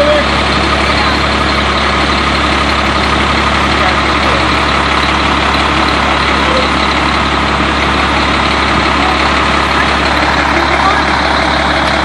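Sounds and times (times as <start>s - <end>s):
fire engine idling: 0.0s - 12.0s.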